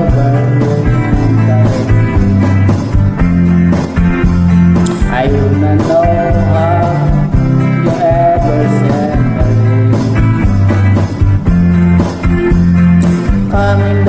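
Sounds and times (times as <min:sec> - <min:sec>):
rock music with guitar and drums: 0:00.0 - 0:14.0.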